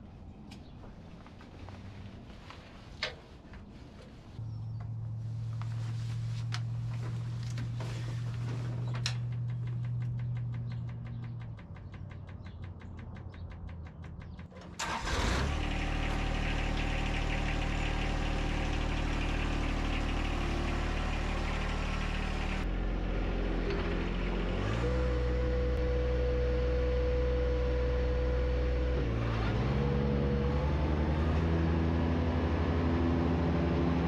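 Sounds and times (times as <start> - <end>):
low engine hum: 0.0 - 34.0
tractor diesel engine running: 4.4 - 34.0.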